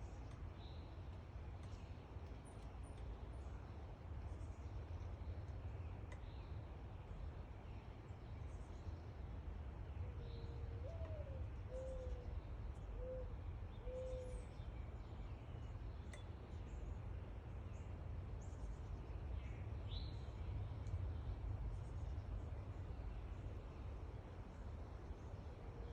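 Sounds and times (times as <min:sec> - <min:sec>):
low background hum: 0:00.0 - 0:25.9.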